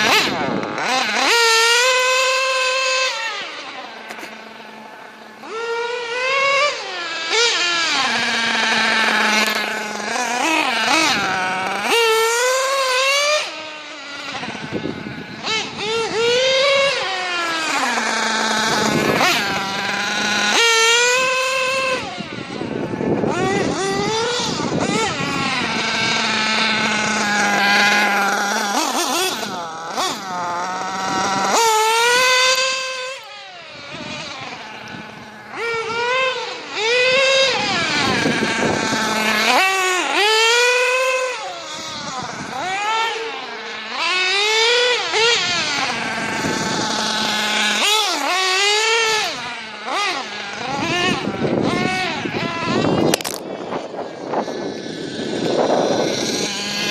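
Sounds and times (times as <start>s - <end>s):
small nitro engine revving: 0.0s - 56.9s.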